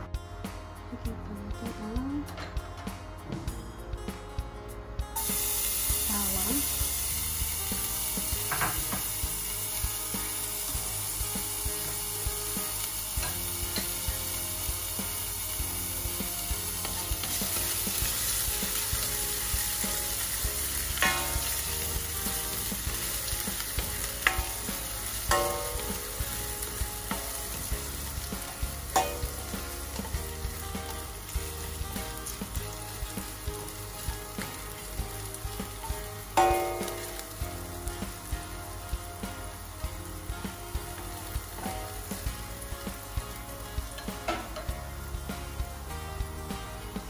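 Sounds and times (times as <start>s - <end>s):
garlic sizzling in oil: 5.2s - 47.0s.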